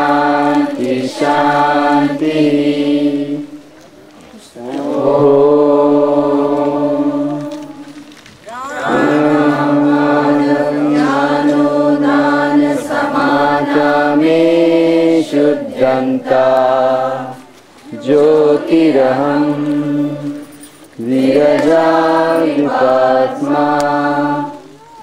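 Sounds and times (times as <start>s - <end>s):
group chanting in unison: 0.0s - 3.7s, 4.4s - 24.8s.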